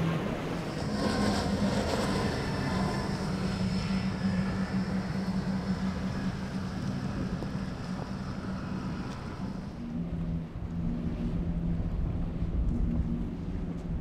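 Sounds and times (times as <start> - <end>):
motorboat engines droning: 0.0 - 14.0
water noise: 0.0 - 14.0
wind: 0.0 - 14.0.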